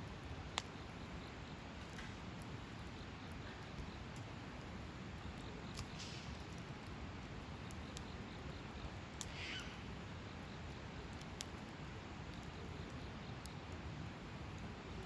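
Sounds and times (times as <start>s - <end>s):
campfire burning: 0.0s - 15.0s
fire crackles and pops: 0.0s - 15.0s.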